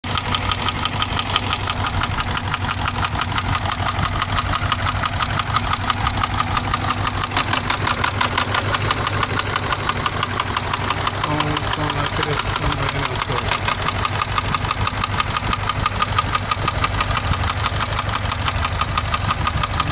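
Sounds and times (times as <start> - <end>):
car engine idling with knocking: 0.0 - 19.9.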